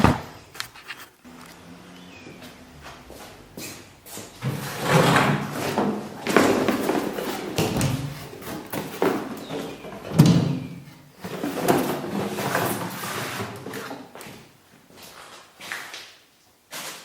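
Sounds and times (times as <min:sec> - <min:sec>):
objects being handled and moved: 0:00.0 - 0:01.7, 0:02.3 - 0:17.0.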